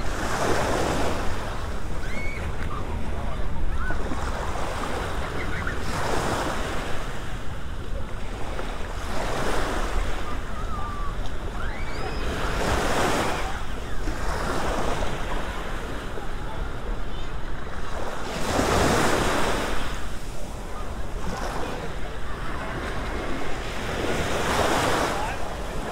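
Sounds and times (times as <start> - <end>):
small waves breaking: 0.0 - 25.9.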